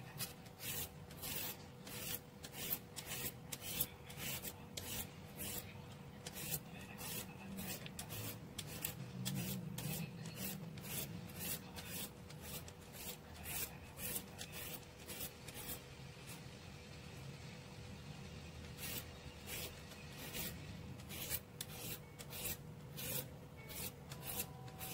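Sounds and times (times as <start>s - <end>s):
peeler scraping cucumber: 0.1s - 16.4s, 18.6s - 24.9s.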